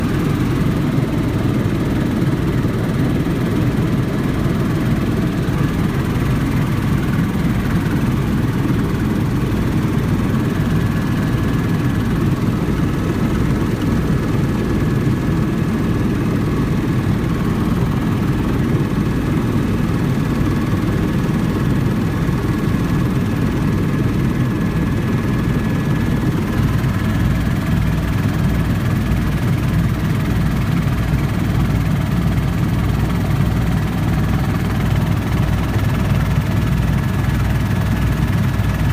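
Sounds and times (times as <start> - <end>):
helicopter rotor beating: 0.0 - 38.9.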